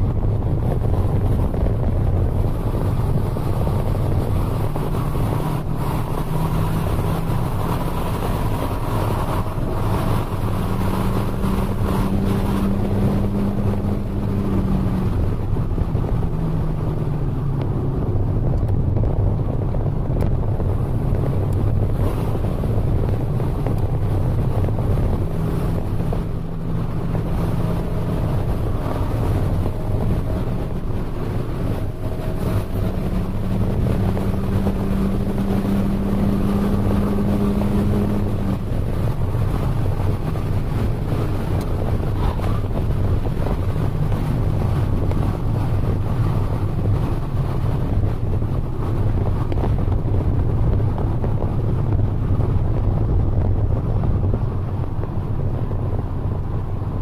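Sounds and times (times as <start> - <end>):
car engine humming: 0.0 - 57.0
road noise rumble: 0.0 - 57.0.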